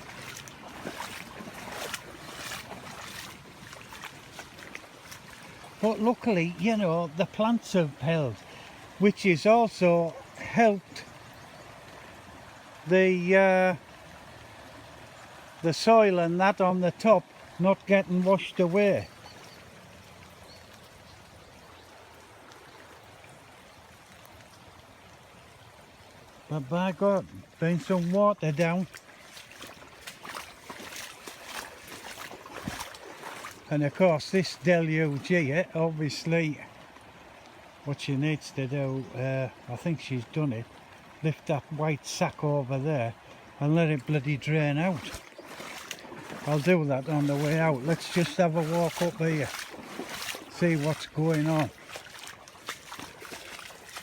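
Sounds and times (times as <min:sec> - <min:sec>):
floodwater rushing and splashing: 0:00.0 - 0:54.0.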